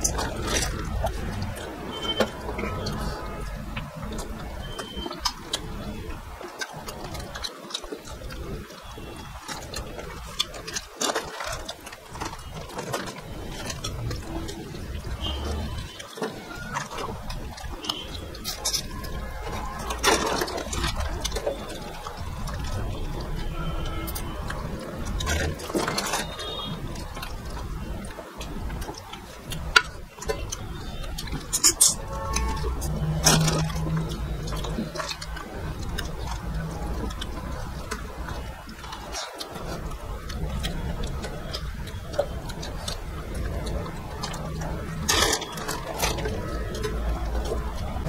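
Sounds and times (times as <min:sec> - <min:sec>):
chewing: 0:00.0 - 0:48.0.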